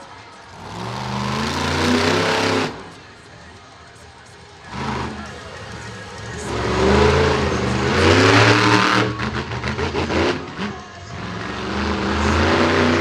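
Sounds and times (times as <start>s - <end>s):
truck engine revving: 0.0s - 13.0s
engine popping: 0.2s - 10.9s.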